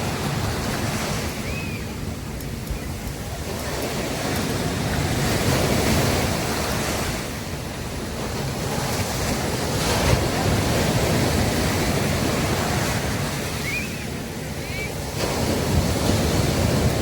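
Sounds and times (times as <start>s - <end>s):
sea waves breaking on a beach: 0.0s - 17.0s.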